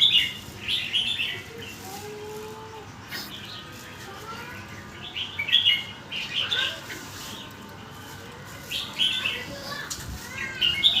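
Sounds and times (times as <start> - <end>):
bird singing warbled phrases: 0.0 - 1.9, 2.8 - 11.0.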